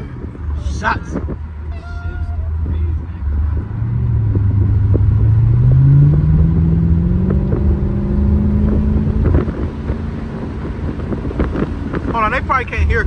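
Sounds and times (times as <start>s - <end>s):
car engine accelerating: 0.0s - 13.0s
low exhaust rumble: 0.0s - 13.0s.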